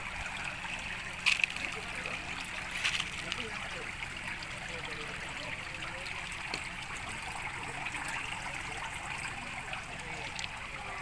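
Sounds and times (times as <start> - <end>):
water flowing and trickling: 0.0 - 11.0.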